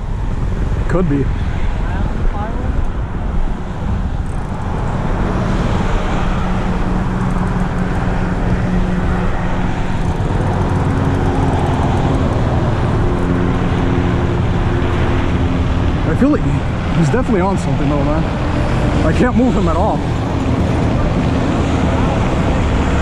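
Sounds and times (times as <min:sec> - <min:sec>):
traffic drone: 0:00.0 - 0:23.0
vehicle engine hum: 0:00.0 - 0:23.0.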